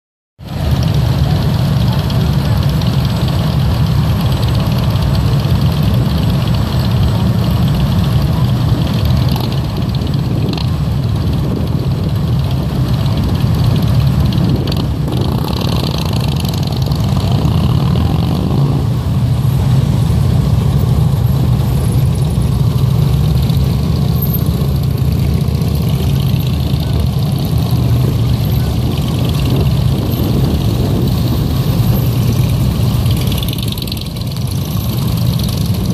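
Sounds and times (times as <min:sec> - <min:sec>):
vehicle engines rumbling: 0:00.4 - 0:35.9.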